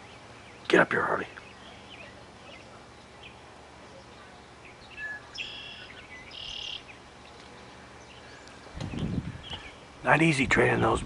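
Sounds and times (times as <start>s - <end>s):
bird chirp: 0.0s - 9.9s
faint outdoor background noise: 0.0s - 11.0s
high buzzy bird calls: 0.0s - 11.0s.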